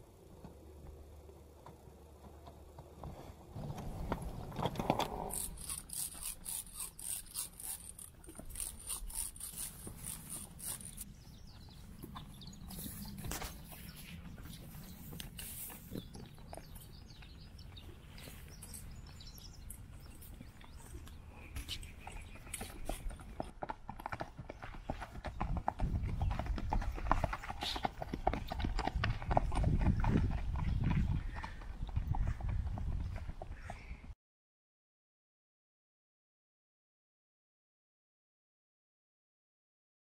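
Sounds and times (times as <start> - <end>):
horse hooves on dry dirt: 0.0 - 34.1.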